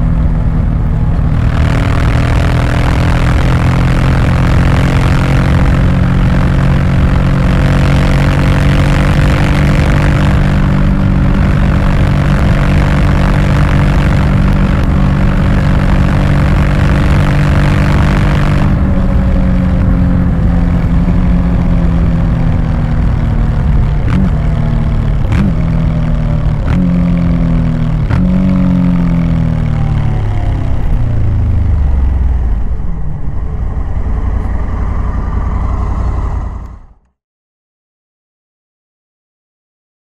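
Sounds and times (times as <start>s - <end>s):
heavy wind rush: 0.0s - 37.1s
motorcycle engine slowing down: 0.0s - 37.1s.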